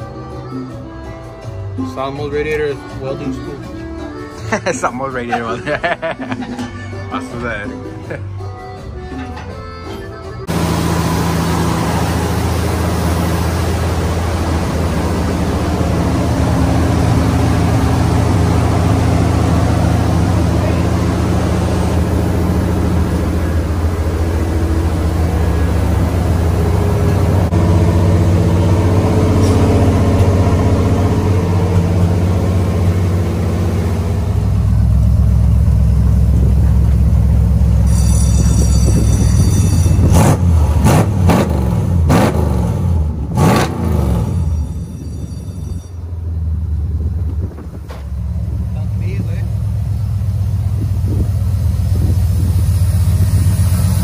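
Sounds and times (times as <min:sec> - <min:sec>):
pickup truck engine running: 0:07.5 - 0:54.0.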